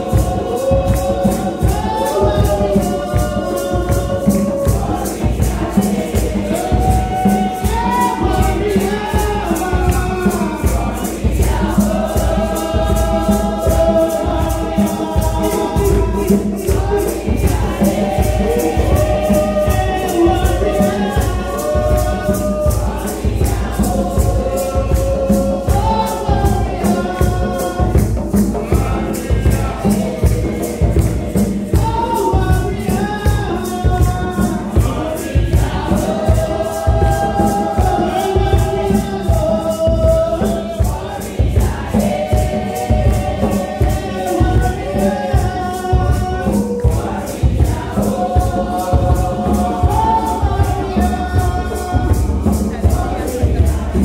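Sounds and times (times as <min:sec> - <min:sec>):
choir singing gospel song: 0:00.0 - 0:54.0
hand percussion beat: 0:00.0 - 0:54.0
woman singing lead: 0:00.0 - 0:54.0.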